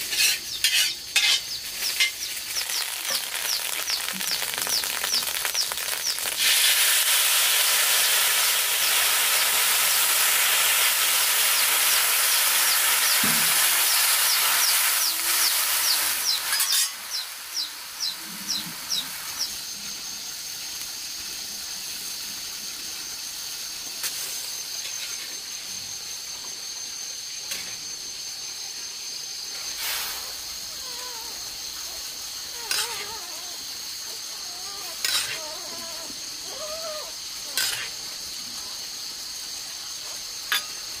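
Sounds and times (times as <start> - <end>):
food sizzling in hot fat: 0.0 - 41.0.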